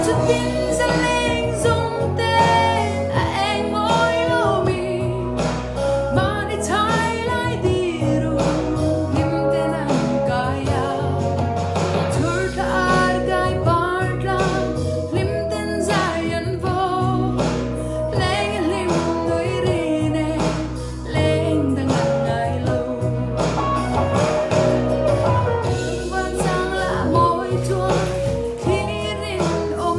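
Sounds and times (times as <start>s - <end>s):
instrumental backing: 0.0s - 29.9s
low bass line: 0.0s - 29.9s
person singing with vibrato: 0.0s - 29.9s.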